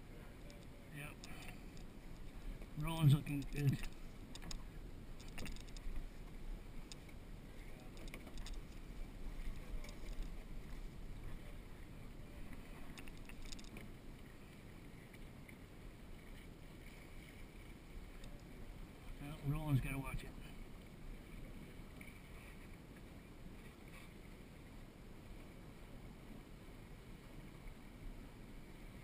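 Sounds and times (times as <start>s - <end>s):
wind and water rushing: 0.0s - 29.0s.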